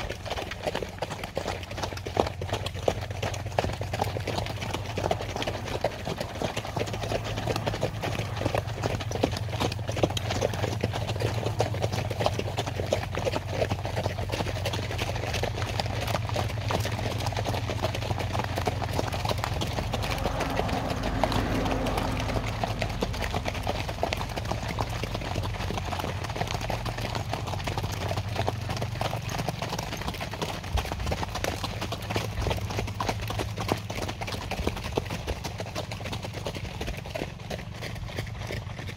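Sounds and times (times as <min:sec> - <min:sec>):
horse hooves on asphalt: 0:00.0 - 0:38.9.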